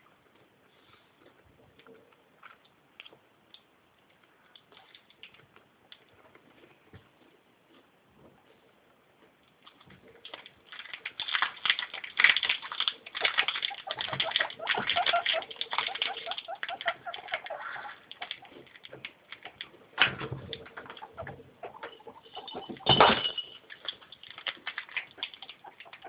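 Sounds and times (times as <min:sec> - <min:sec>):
guinea pigs crunching food: 0:00.0 - 0:22.8, 0:23.6 - 0:26.0.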